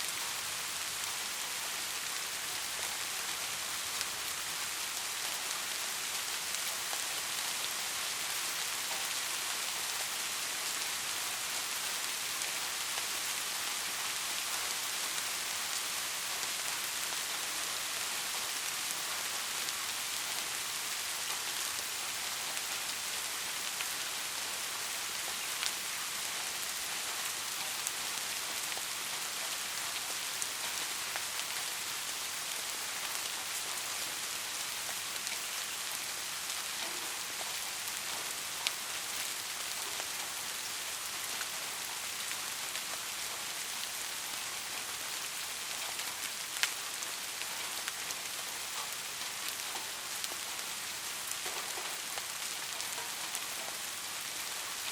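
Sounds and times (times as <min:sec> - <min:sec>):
rain falling on a surface: 0:00.0 - 0:54.9.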